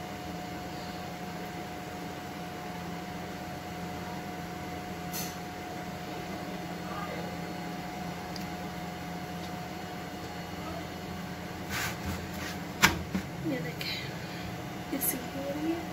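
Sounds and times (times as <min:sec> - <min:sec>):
kitchen hum and hiss: 0:00.0 - 0:15.9.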